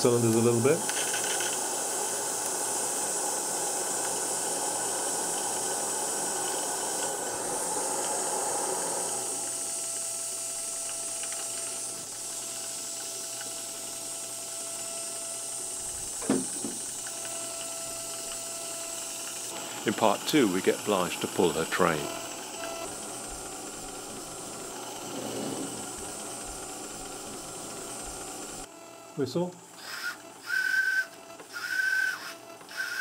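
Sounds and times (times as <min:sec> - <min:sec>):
model steam locomotive hissing: 0:00.0 - 0:28.7, 0:29.8 - 0:33.0.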